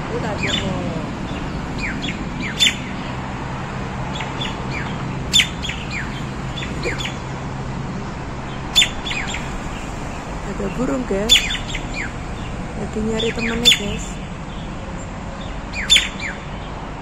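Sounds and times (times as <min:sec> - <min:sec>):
songbird chirping: 0:00.0 - 0:16.8
sharp bird calls: 0:00.2 - 0:03.4, 0:04.0 - 0:16.8.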